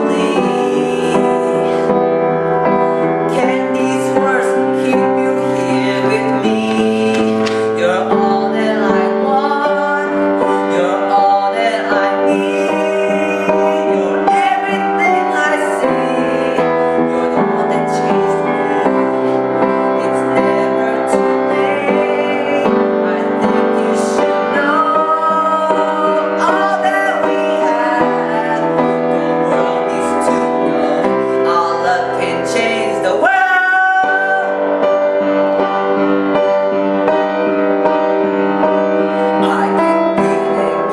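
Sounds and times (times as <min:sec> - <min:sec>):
person singing: 0:00.0 - 0:40.9
piano: 0:00.0 - 0:40.9.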